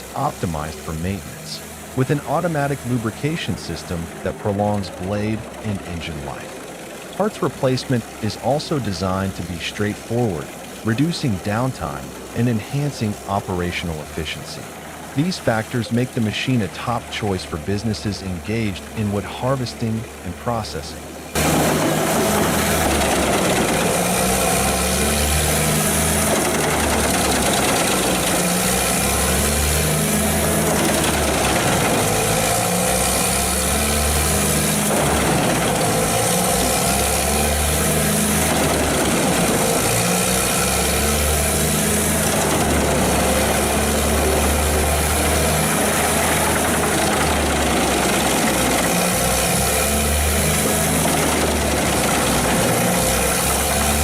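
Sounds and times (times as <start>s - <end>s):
wood chipper engine drone: 0.0s - 54.0s.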